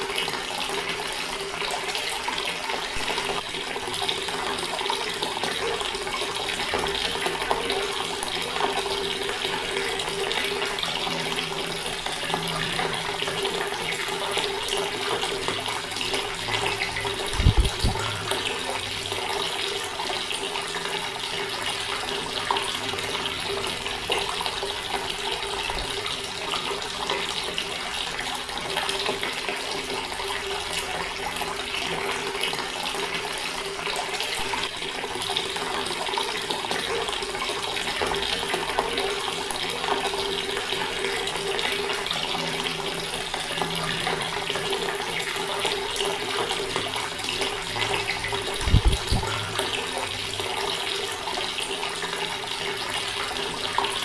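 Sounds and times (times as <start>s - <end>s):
water tap running: 0.0s - 54.0s.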